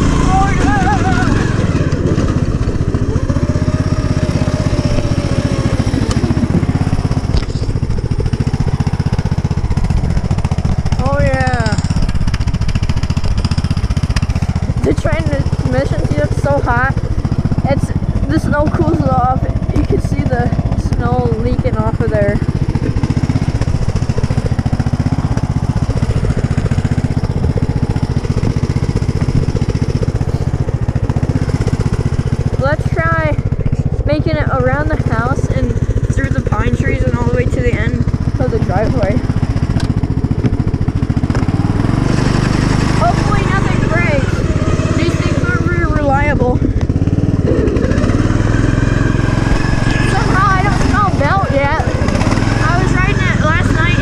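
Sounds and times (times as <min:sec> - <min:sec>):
riding lawn mower engine running: 0:00.0 - 0:54.0.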